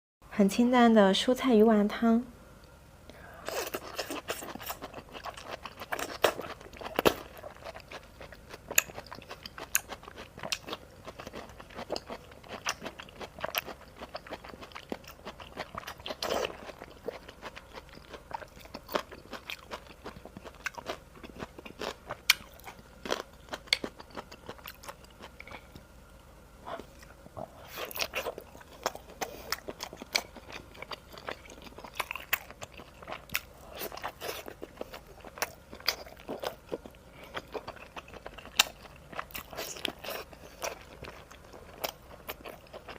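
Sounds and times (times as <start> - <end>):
chewing and biting food: 3.5 - 25.9, 26.7 - 42.9.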